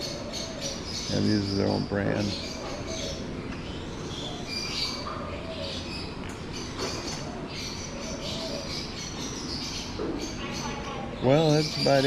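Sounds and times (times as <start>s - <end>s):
caged birds chirping: 0.0s - 12.0s
low background hum: 0.0s - 12.0s.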